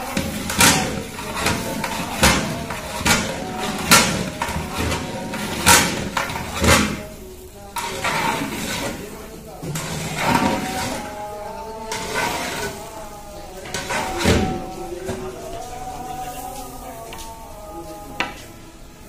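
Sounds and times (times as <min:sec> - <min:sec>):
metal spatula scraping metal pot: 0:00.0 - 0:15.4.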